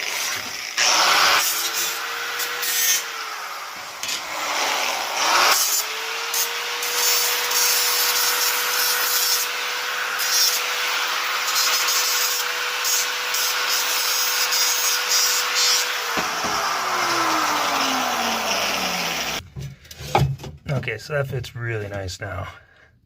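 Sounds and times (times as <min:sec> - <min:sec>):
angle grinder motor whine: 0:00.0 - 0:19.4
grinder scraping sheet steel: 0:00.0 - 0:20.1.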